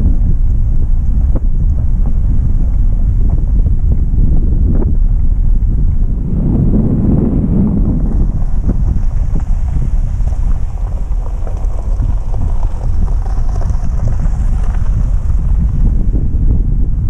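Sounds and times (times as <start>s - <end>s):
vehicle driving on gravel: 0.0s - 17.0s
wind buffeting microphone: 0.0s - 17.0s.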